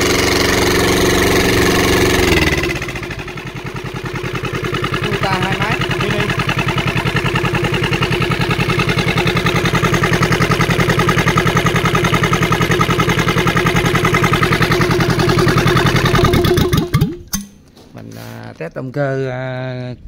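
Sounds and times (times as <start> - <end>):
diesel engine running: 0.0 - 17.4.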